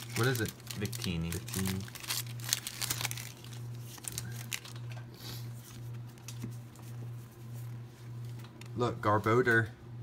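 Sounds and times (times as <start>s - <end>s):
trading cards flicking and rustling: 0.0s - 8.8s
steady low hum: 0.0s - 10.0s.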